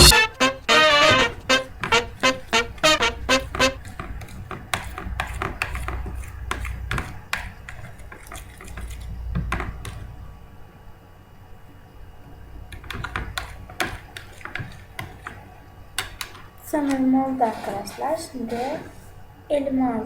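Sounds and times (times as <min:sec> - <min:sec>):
spoon scraping a plate: 0:00.0 - 0:10.1, 0:12.7 - 0:19.2.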